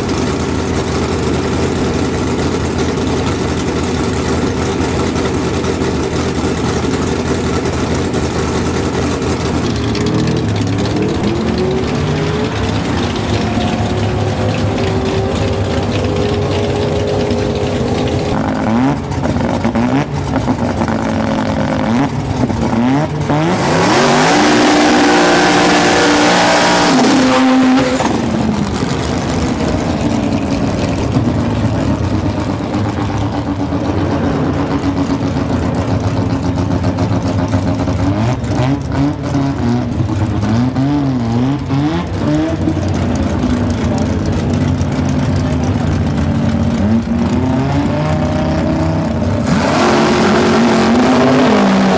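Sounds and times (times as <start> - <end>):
engine revving in blips: 9.0 - 51.9.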